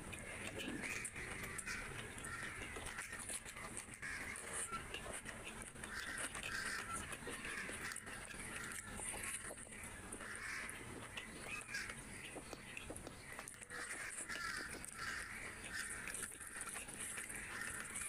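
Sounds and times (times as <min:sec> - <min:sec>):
fingers squishing food: 0:00.0 - 0:18.0
wet chewing and lip-smacking: 0:00.0 - 0:18.0.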